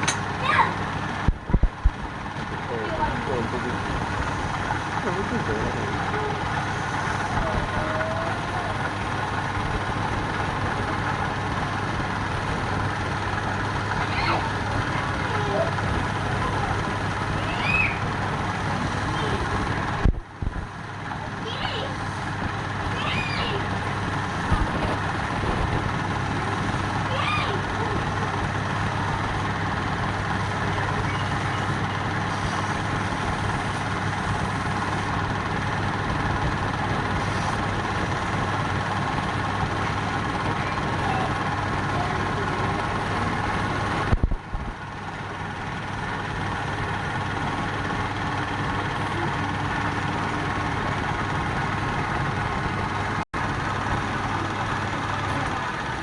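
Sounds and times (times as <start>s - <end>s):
wood lathe running: 1.9s - 44.2s, 44.8s - 56.0s.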